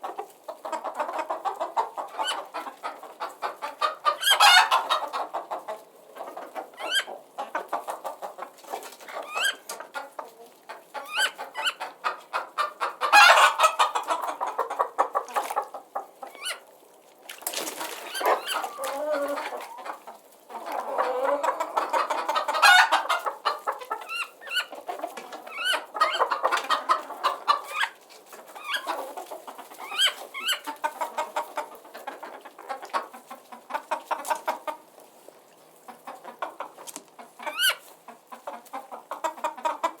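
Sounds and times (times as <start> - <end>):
chickens clucking and squawking: 0.0 - 40.0.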